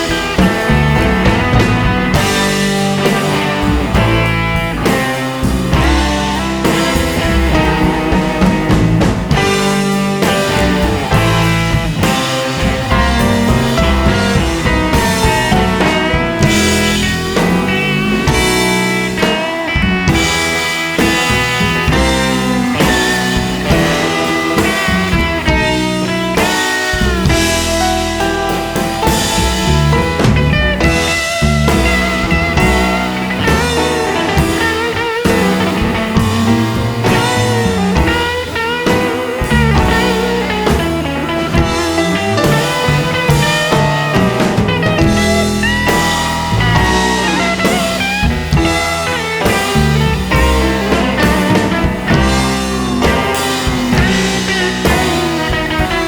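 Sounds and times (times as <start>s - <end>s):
bass guitar: 0.0s - 56.0s
drums: 0.0s - 56.0s
electric guitar: 0.0s - 56.0s.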